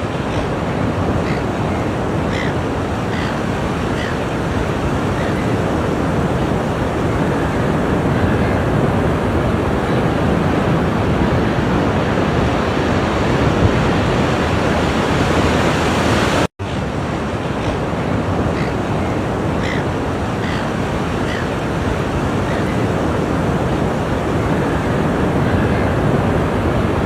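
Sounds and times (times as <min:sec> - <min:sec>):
ocean waves washing on shore: 0:00.0 - 0:27.0.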